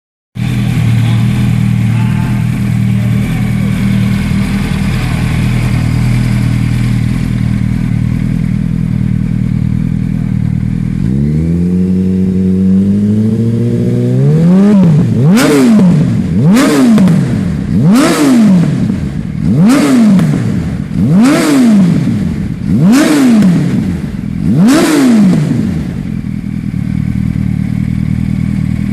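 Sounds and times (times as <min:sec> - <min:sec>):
motorcycle engine idling and revving: 0:00.4 - 0:28.9.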